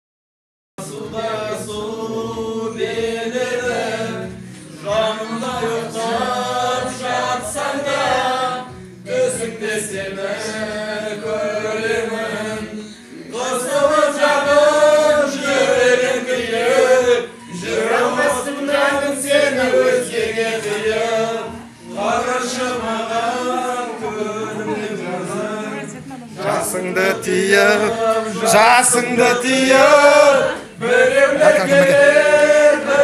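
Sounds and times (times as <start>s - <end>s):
group singing unaccompanied: 0.8s - 33.0s.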